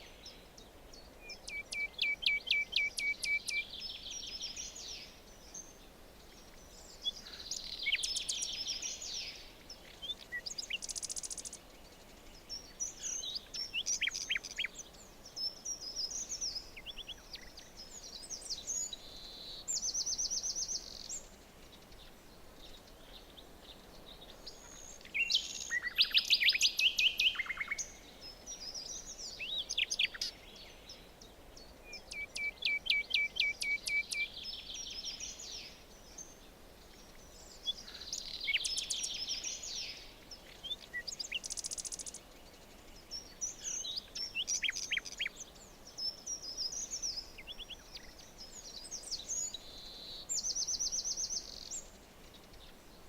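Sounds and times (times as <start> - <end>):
faint background hiss: 0.0 - 53.0
songbirds singing: 0.0 - 53.0.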